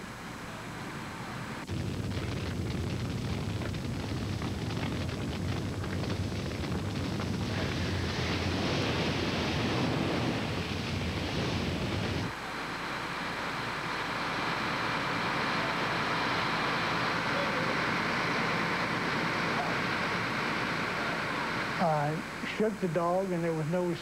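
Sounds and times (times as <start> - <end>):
house fire roaring: 0.0 - 24.0
steady hiss: 0.0 - 24.0.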